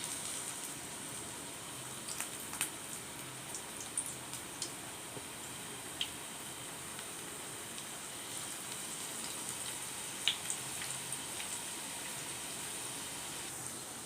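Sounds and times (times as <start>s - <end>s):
batter sizzling in hot oil: 0.0s - 14.0s.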